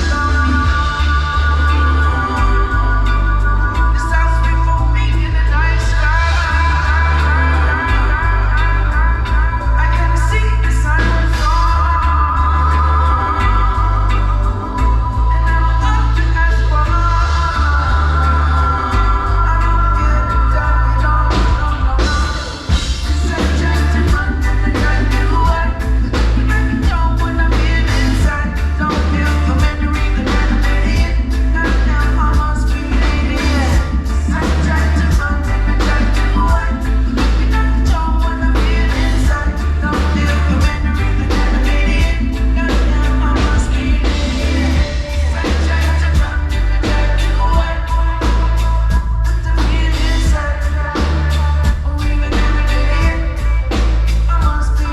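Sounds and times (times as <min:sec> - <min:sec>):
live reggae band playing: 0:00.0 - 0:54.9
person singing: 0:00.0 - 0:54.9.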